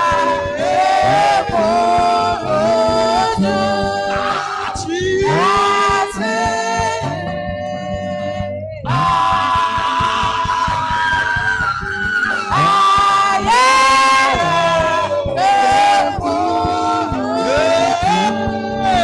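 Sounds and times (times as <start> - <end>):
gospel choir singing: 0.0 - 19.0
instrumental accompaniment: 0.0 - 19.0.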